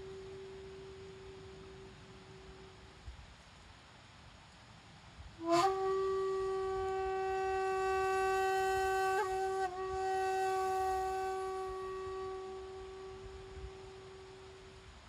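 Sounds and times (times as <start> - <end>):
bamboo flute long note: 0.0 - 3.1, 5.4 - 15.0.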